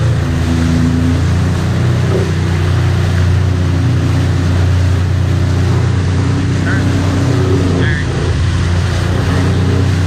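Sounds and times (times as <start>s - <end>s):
jet ski engine droning: 0.0s - 10.0s
rushing water and spray: 0.0s - 10.0s.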